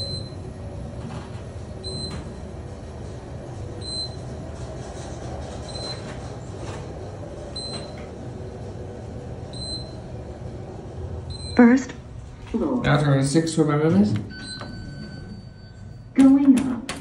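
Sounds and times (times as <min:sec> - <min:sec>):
elevator rumble: 0:00.0 - 0:17.0.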